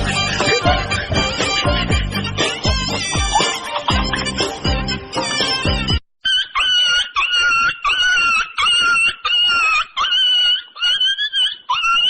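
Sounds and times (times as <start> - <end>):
chicken-like squawking: 0.0 - 4.8, 6.2 - 12.0.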